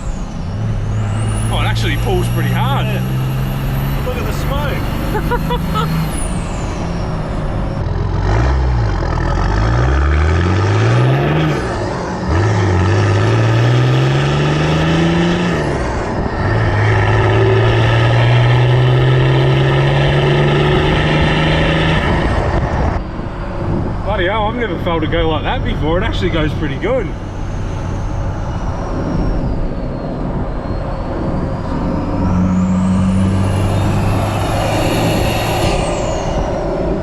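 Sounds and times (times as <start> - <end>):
diesel engine accelerating: 0.0 - 37.0.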